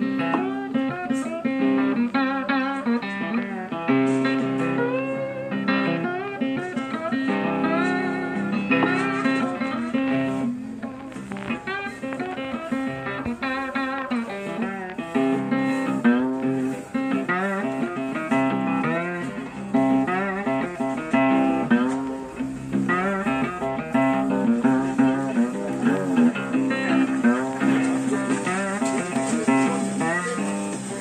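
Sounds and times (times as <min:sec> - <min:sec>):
guitar music: 0:00.0 - 0:31.0.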